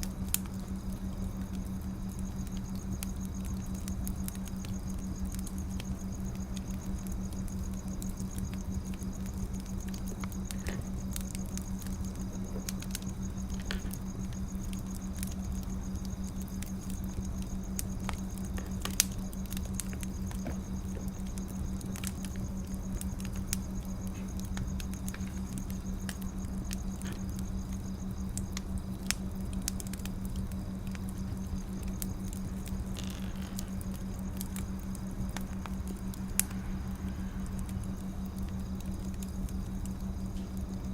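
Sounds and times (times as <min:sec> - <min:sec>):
faint hum: 0:00.0 - 0:40.9
wood fire crackling: 0:00.0 - 0:40.9.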